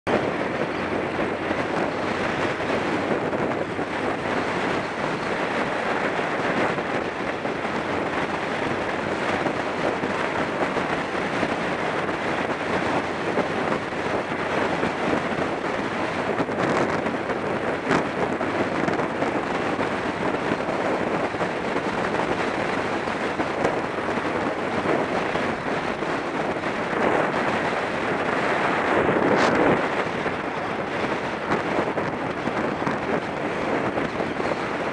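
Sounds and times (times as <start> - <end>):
motorcycle running: 0.0 - 34.9
road noise: 0.0 - 34.9
wind rushing over microphone: 0.0 - 34.9.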